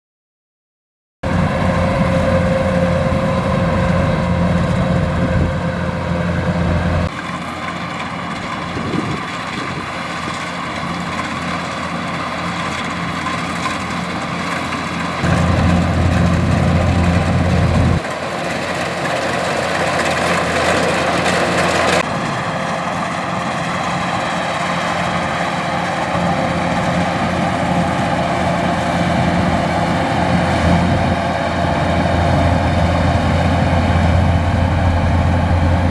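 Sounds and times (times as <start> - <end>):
combine harvester droning: 1.2 - 35.9.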